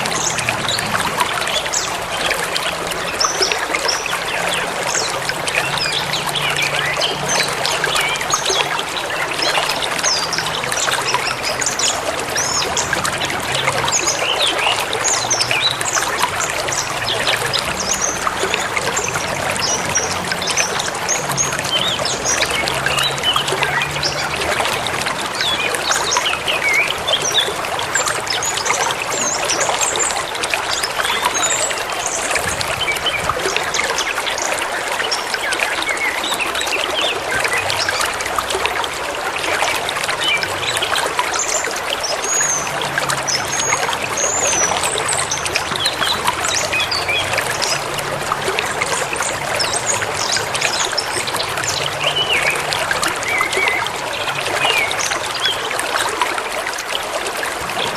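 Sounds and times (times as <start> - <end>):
songbirds chirping: 0.0 - 57.0
river babbling over stones: 0.0 - 57.9.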